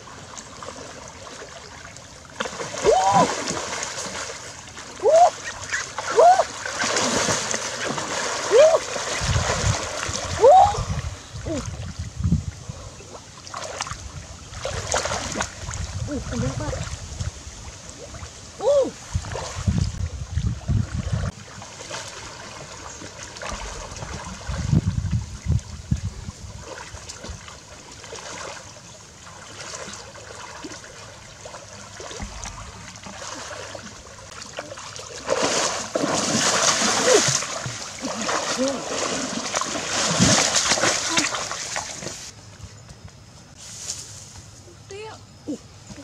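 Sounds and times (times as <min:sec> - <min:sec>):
water sloshing and splashing: 0:00.0 - 0:42.6.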